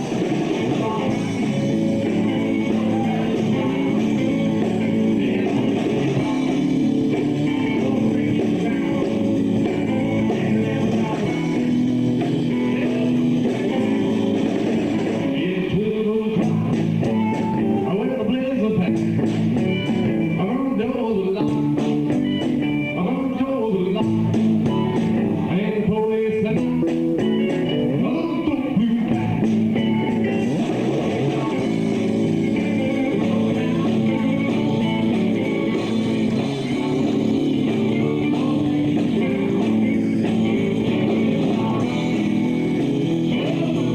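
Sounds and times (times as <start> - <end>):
bending lead guitar line: 0.0 - 43.9
live rock band playing: 0.0 - 43.9.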